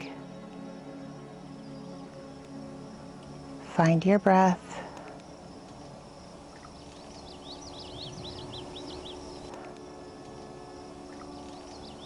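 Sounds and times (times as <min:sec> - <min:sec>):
outdoor background noise: 0:00.0 - 0:12.0
songbird chirping: 0:00.0 - 0:12.0.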